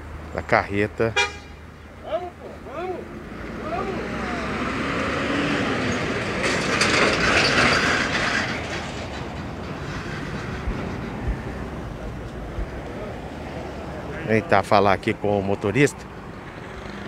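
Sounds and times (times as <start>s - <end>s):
steady traffic rumble: 0.0s - 17.0s
vehicle passing close by: 2.7s - 17.0s.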